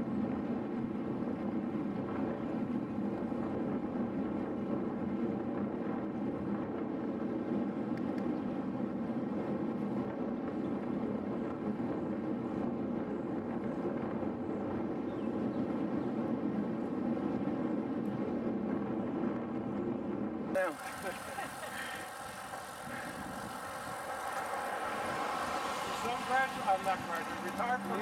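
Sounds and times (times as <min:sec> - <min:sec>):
bicycle tyre noise on asphalt: 0:00.0 - 0:28.0
wind rushing over microphone: 0:00.0 - 0:28.0.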